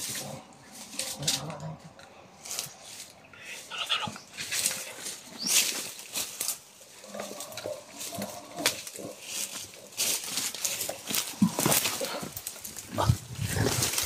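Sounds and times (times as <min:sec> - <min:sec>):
leaves and twigs rustling: 0:00.0 - 0:14.0.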